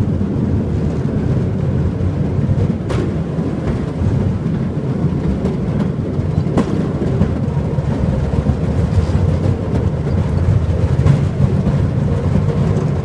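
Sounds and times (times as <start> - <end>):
rail cart rumbling on track: 0.0 - 13.0.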